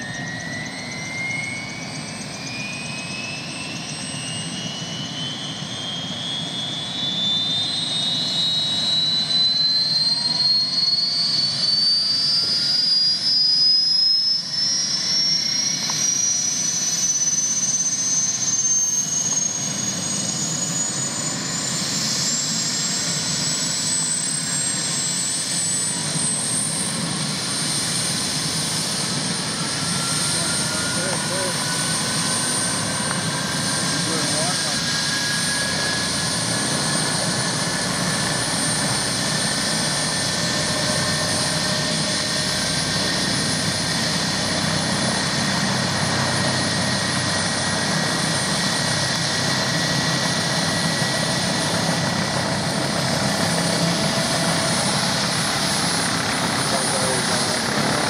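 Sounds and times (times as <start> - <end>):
helicopter rotor rush: 0.0 - 58.0
turbine engine whine rising: 0.0 - 58.0.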